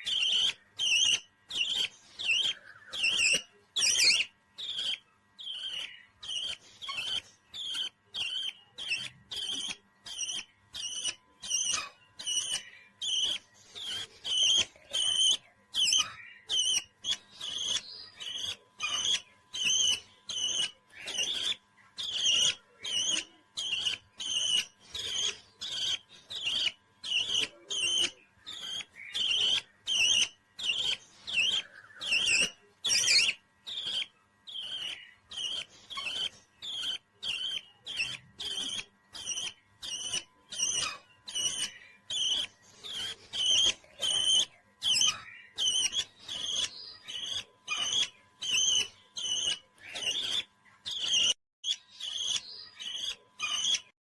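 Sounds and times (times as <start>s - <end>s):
parrot chirping: 0.0s - 54.0s.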